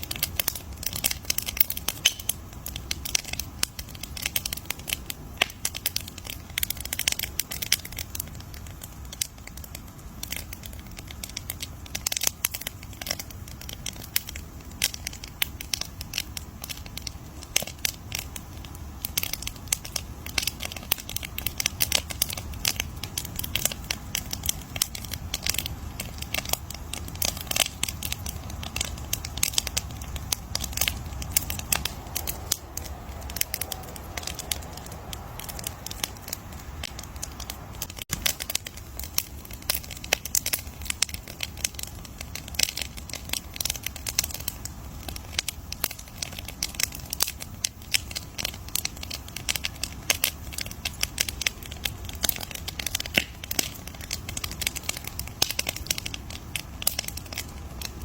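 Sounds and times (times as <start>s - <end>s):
wood campfire crackling: 0.0s - 58.0s.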